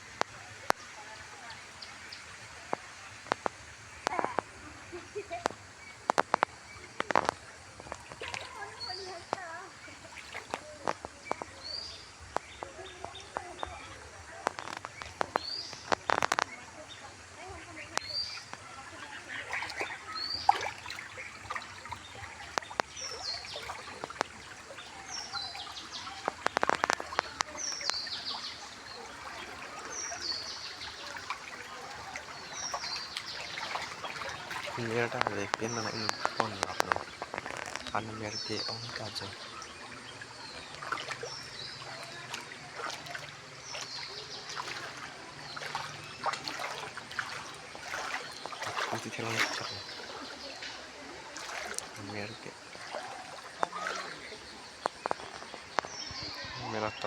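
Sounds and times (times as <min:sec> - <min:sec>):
water trickling and running: 0:00.0 - 0:57.0
bird chirping: 0:00.5 - 0:57.0.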